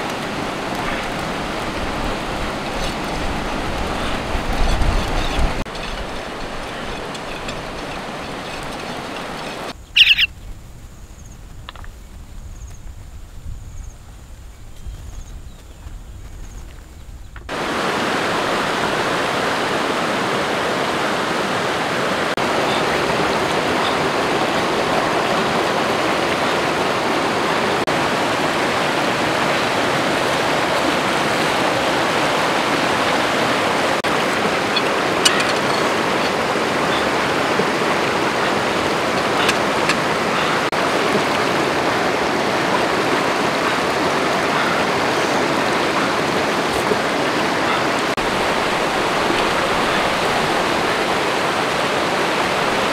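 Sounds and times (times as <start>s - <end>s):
river rapids rushing over rocks: 0.0s - 9.8s, 17.5s - 52.9s.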